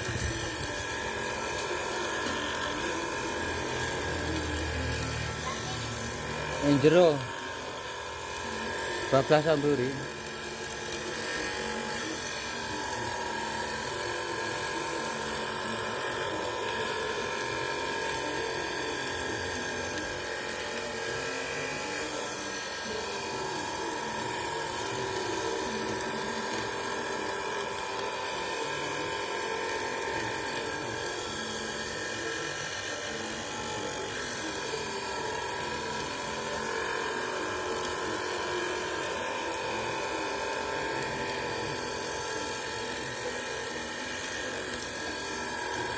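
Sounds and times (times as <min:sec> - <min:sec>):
electric grinder whining: 0:00.0 - 0:45.9.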